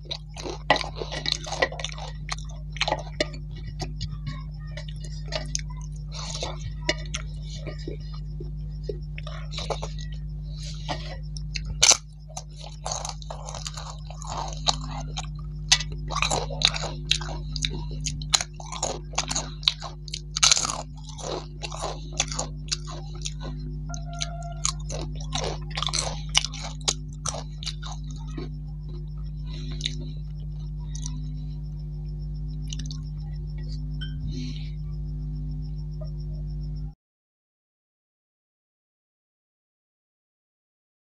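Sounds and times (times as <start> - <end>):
crisp crunching chewing: 0.0 - 34.7.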